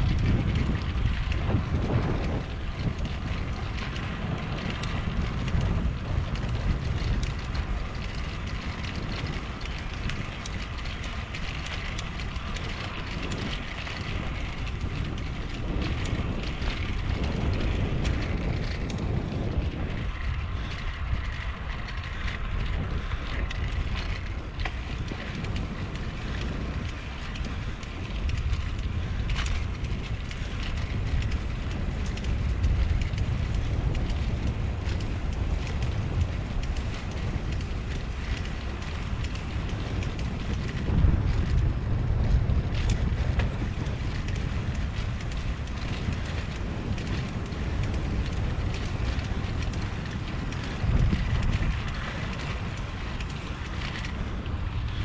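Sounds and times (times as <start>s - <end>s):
wheels rolling on concrete: 0.0s - 55.0s
wind buffeting microphone: 0.0s - 55.0s.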